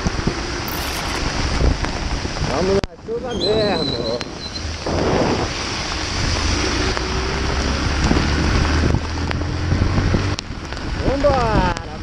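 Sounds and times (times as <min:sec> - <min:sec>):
wind and rain on microphone: 0:00.0 - 0:12.0.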